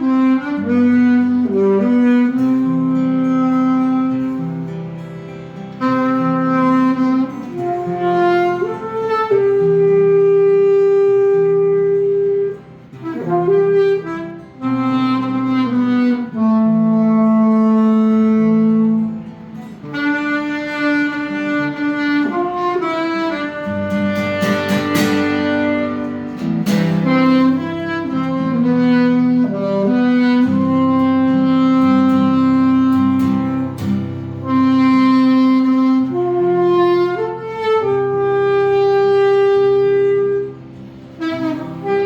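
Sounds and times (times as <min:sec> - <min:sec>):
lower accompaniment: 0:00.0 - 0:42.0
saxophone slow melody: 0:00.0 - 0:42.0.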